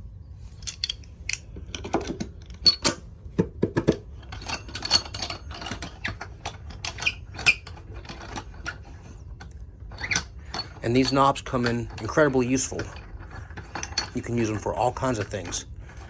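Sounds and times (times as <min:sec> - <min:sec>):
workshop parts clicking and clinking: 0:00.5 - 0:16.0.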